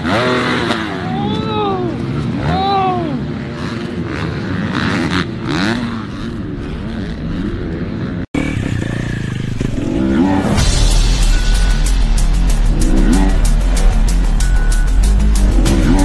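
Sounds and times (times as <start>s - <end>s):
dirt bike engines revving: 0.0s - 16.0s
motorcycle engine: 0.0s - 16.0s.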